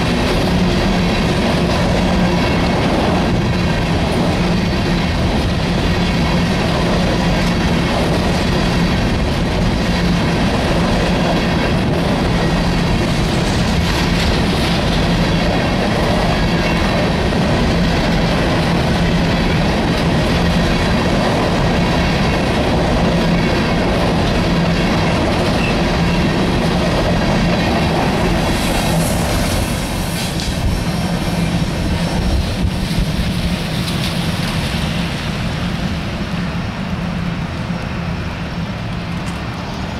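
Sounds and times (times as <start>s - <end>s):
train wheels clattering over rail joints: 0.0s - 35.9s
train rumble: 0.0s - 39.9s.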